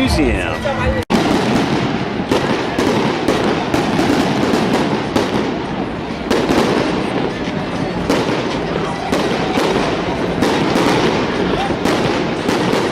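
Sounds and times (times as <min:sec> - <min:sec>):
fireworks bangs: 0:01.1 - 0:12.9
fireworks crackling: 0:01.1 - 0:12.9.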